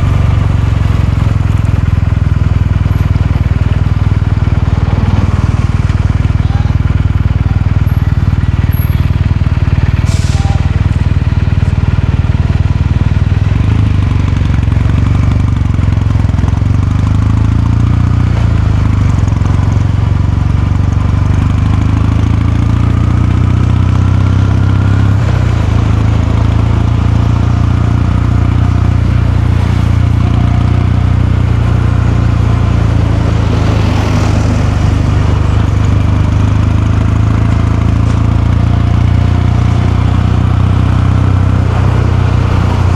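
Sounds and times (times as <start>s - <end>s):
motorcycle engine and exhaust running: 0.0s - 42.9s.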